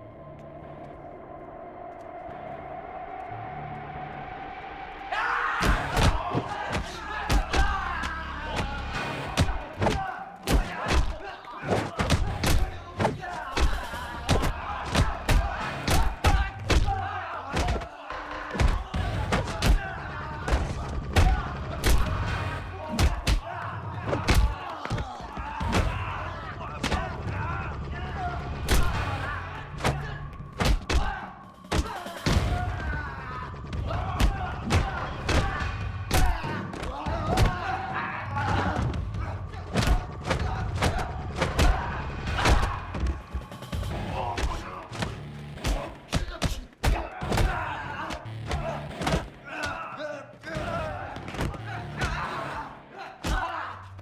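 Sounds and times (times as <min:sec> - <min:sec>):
fighters grunting and shouting: 0:05.1 - 0:54.0.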